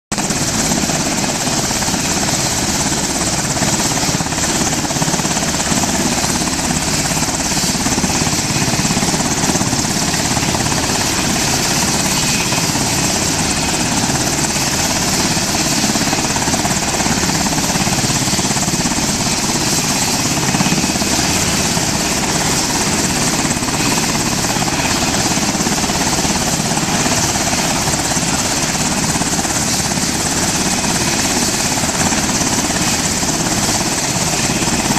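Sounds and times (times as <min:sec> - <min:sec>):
helicopter turbine whine and rotors: 0:00.1 - 0:34.9.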